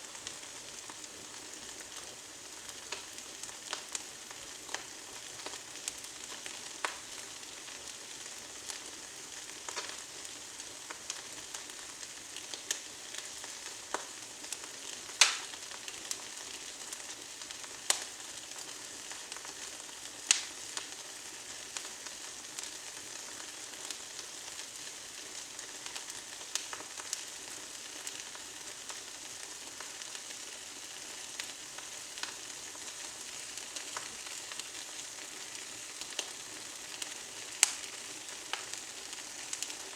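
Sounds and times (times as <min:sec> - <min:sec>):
fire crackling and popping: 0:00.0 - 0:39.9
fire hissing: 0:00.0 - 0:39.9.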